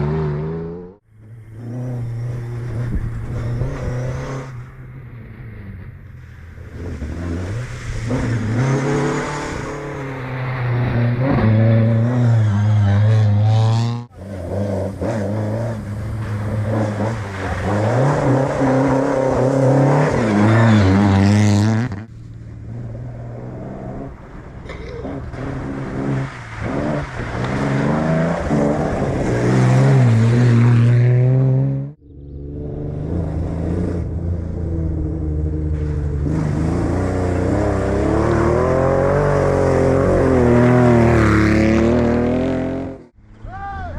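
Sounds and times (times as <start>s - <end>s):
rally car engines revving: 0.0s - 43.2s.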